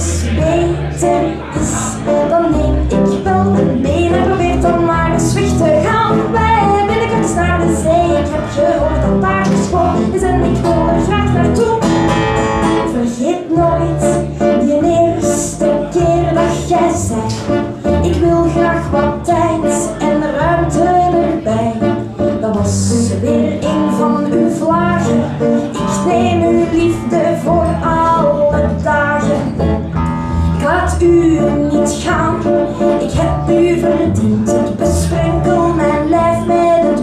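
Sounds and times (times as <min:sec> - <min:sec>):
woman singing: 0:00.0 - 0:29.8, 0:30.6 - 0:37.0
double bass line: 0:00.0 - 0:37.0.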